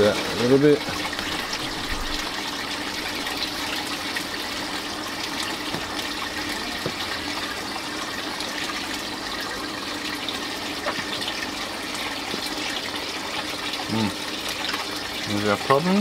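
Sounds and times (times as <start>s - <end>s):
water running into plastic bin: 0.0s - 16.0s.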